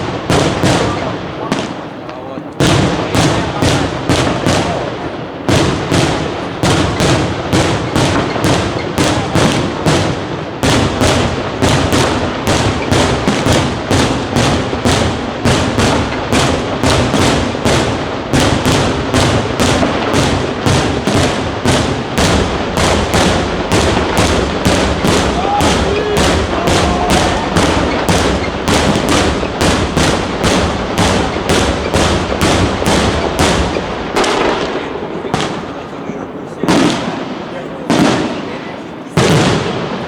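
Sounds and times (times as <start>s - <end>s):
fireworks bursts and booms: 0.0s - 40.0s.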